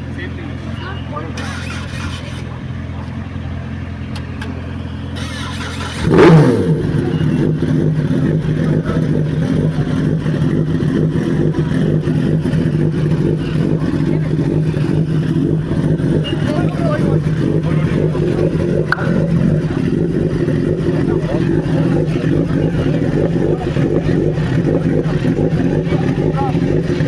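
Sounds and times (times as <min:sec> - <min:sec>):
motorcycle engine starting and idling: 0:00.1 - 0:27.0.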